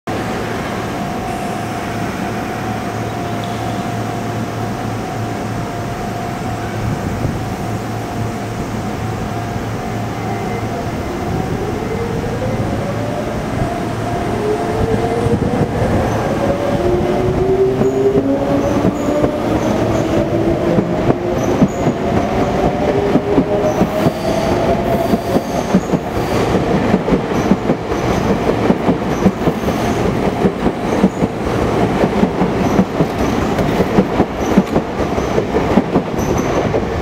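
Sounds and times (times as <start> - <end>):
rumble of train cars: 0.1 - 37.0
train equipment hum: 0.1 - 37.0.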